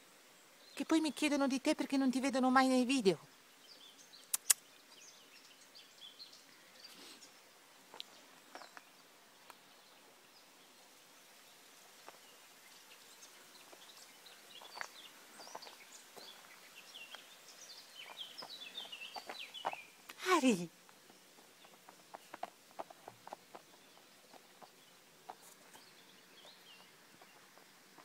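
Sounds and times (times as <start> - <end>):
small songbirds chirping: 0.0 - 28.0.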